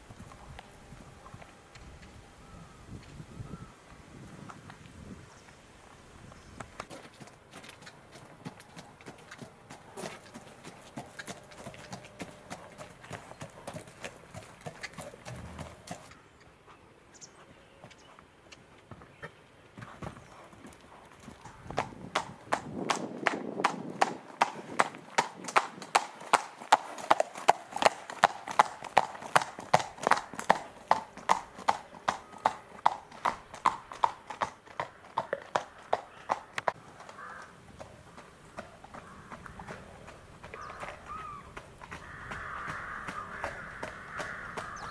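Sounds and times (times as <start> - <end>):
horse hooves clip-clopping: 0.0 - 3.2, 3.9 - 44.9.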